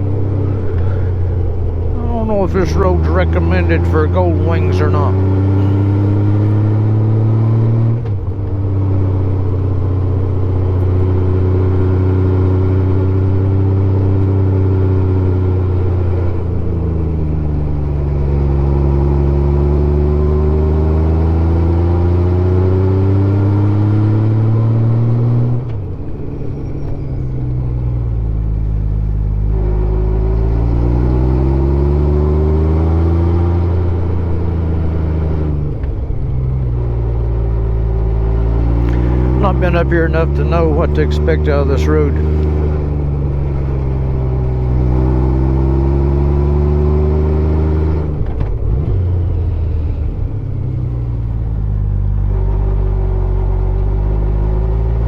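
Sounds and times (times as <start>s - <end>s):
motorcycle engine revving: 0.0s - 25.6s, 26.4s - 55.0s.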